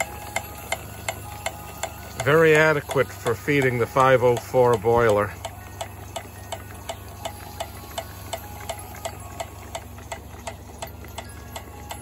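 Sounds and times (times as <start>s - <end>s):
steam pump clicking: 0.0s - 12.0s.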